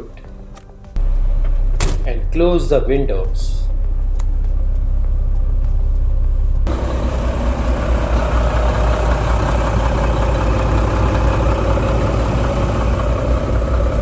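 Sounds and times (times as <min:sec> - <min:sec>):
diesel truck engine idling: 0:01.0 - 0:14.0.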